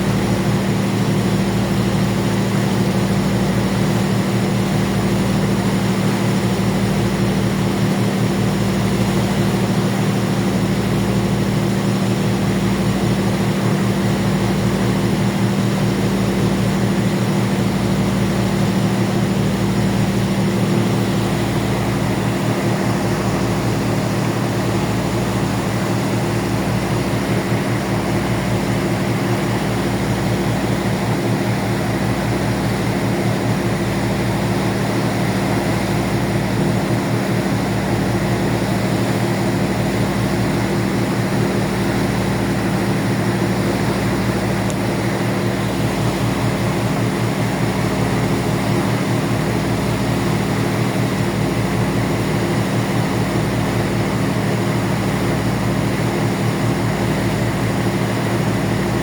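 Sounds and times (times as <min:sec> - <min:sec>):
ship engines droning: 0:00.0 - 0:59.0.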